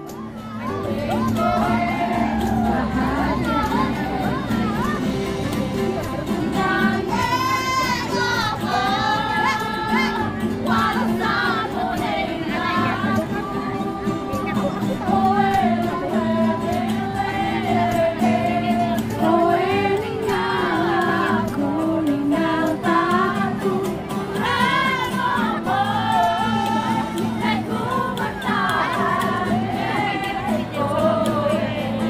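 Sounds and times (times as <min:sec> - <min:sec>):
group singing: 0:00.0 - 0:32.0
strummed acoustic guitar: 0:00.0 - 0:32.0
ukulele: 0:00.0 - 0:32.0.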